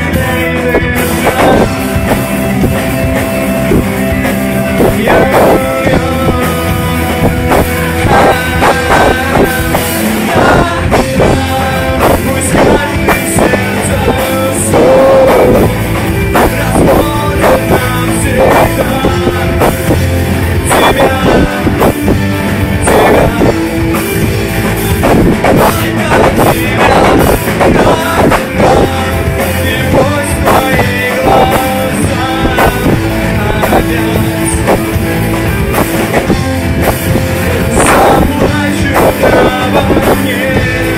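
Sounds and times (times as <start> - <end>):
person singing: 0.0 - 40.9
rock band playing: 0.0 - 40.9.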